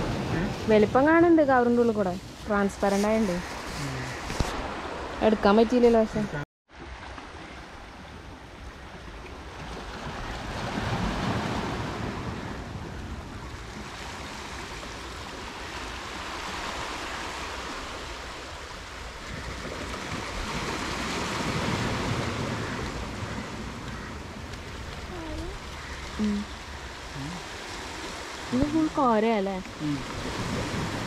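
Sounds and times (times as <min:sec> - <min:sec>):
sea surf washing on beach: 0:00.0 - 0:08.6, 0:09.3 - 0:31.0.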